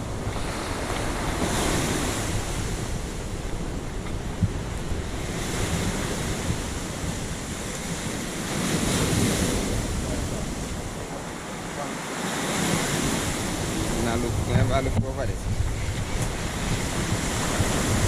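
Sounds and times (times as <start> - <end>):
water rushing: 0.0 - 18.0
wind buffeting microphone: 0.0 - 18.0.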